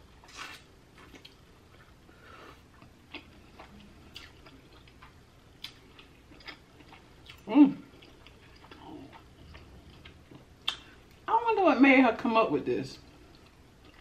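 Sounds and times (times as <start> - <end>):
person chewing food: 0.2 - 11.3, 13.1 - 14.0.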